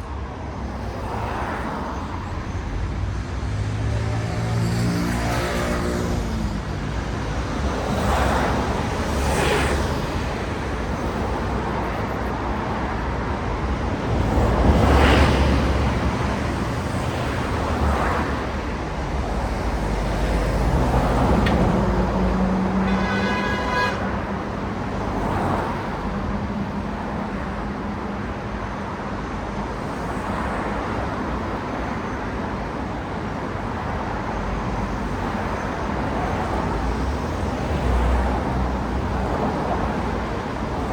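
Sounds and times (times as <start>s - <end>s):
cars passing on road: 0.0s - 40.9s.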